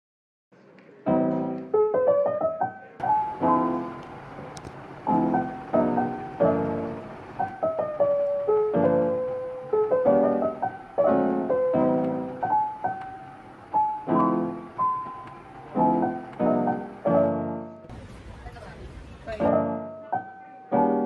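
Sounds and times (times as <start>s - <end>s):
piano music: 1.0s - 17.9s, 19.2s - 21.0s.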